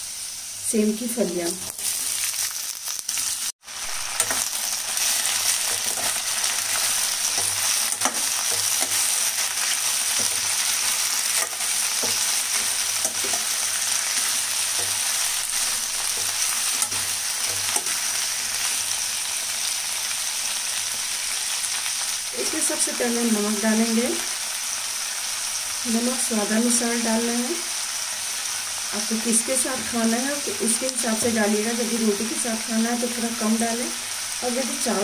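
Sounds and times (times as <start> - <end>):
oil sizzling in a pan: 0.0 - 35.0.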